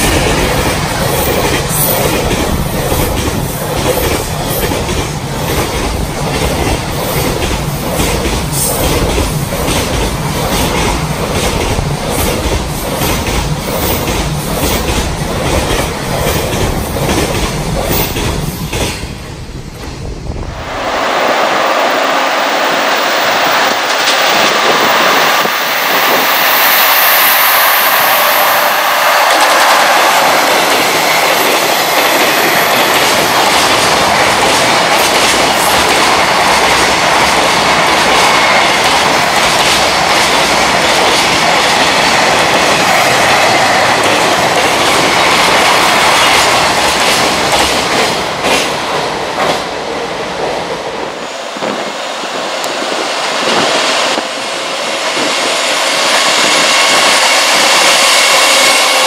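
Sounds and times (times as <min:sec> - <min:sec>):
freight train wheels clattering: 0:00.0 - 0:20.1, 0:22.0 - 0:49.8.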